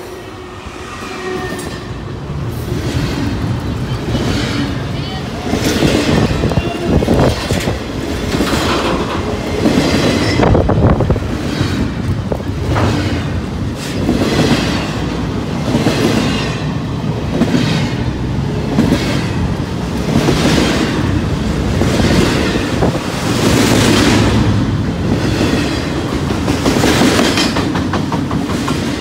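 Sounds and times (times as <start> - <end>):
freight train wheels clattering: 1.3 - 29.0.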